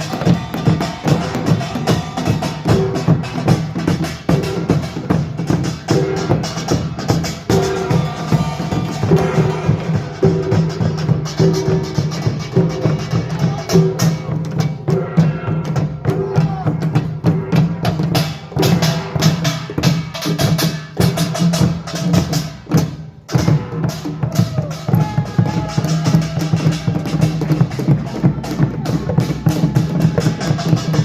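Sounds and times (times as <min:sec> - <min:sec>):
gong and drum ensemble: 0:00.0 - 0:31.0.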